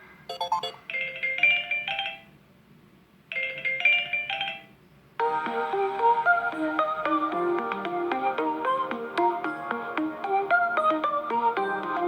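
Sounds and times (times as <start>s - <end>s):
melodic ringtone: 0.3s - 2.3s, 3.3s - 12.0s.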